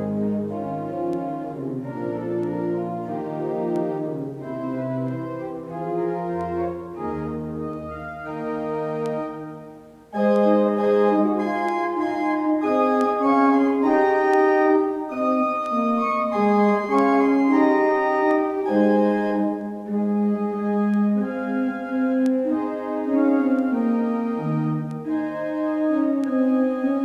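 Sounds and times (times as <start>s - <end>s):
church organ playing chords: 0.0s - 27.0s.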